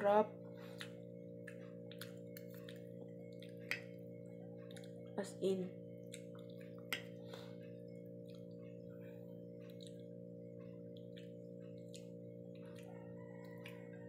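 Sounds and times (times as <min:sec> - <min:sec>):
low hum: 0:00.0 - 0:14.0
chewing: 0:00.4 - 0:05.2, 0:06.0 - 0:14.0.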